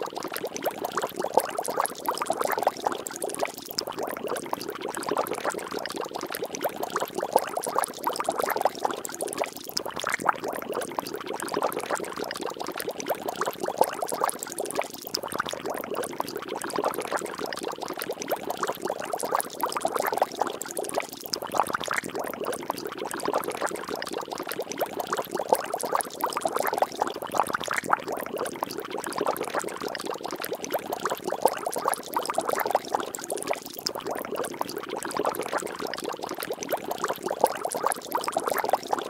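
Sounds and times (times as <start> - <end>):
water bubbling and splashing: 0.0 - 39.0.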